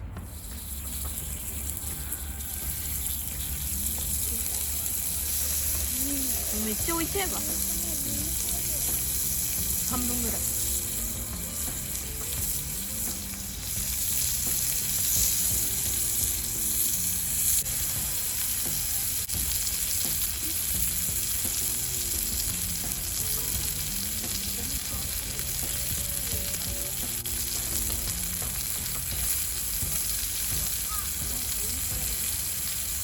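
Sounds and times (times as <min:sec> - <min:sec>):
steak sizzling over fire: 0:00.2 - 0:33.0.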